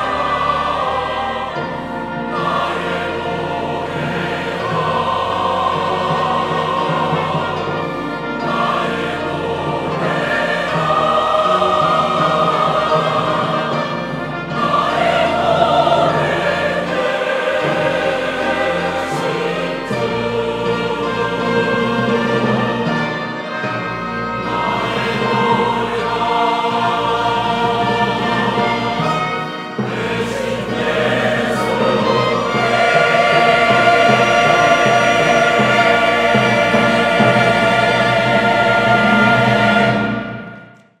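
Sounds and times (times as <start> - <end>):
organ piano and strings: 0.0 - 40.8
mixed choir singing: 0.0 - 40.9.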